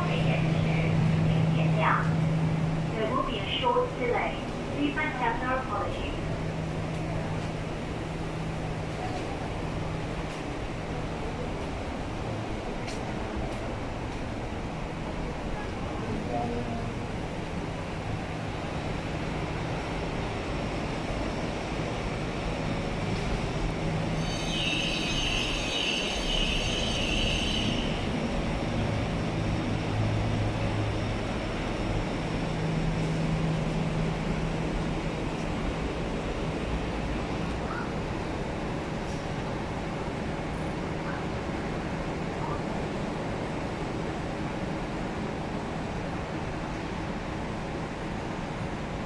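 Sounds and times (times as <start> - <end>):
train equipment hum and rumble: 0.0 - 49.0.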